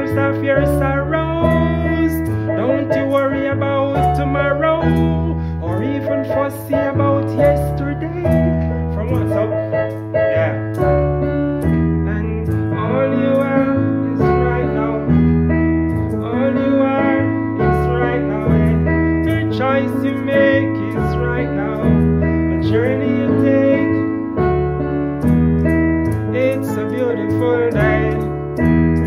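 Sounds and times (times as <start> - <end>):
electric keyboard chords: 0.0 - 29.0.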